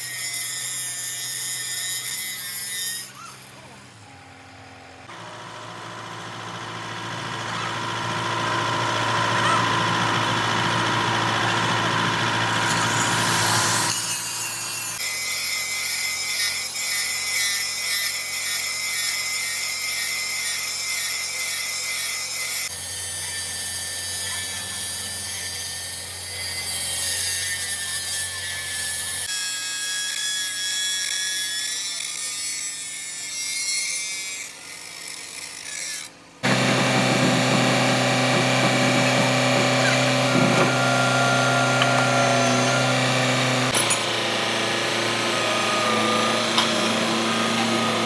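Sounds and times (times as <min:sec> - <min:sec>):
power tool whining: 0:00.0 - 0:48.0.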